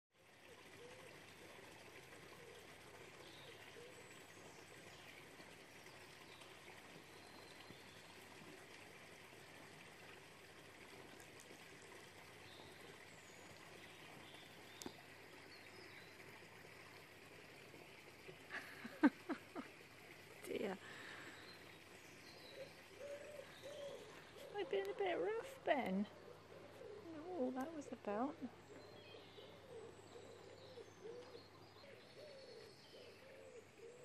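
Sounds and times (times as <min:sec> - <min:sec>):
faint background hiss: 0:00.2 - 0:34.0.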